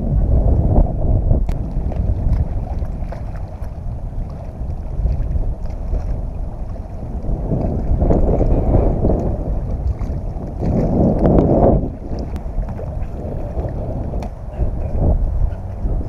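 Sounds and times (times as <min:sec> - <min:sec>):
wind buffeting microphone: 0:00.0 - 0:16.0
waves lapping against rocks: 0:01.3 - 0:16.0.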